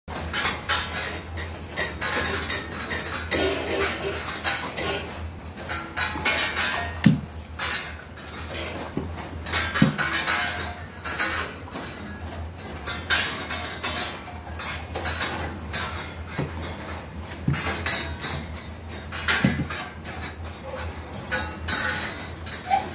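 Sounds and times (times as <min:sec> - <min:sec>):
dishes and utensils clinking: 0:00.1 - 0:22.9.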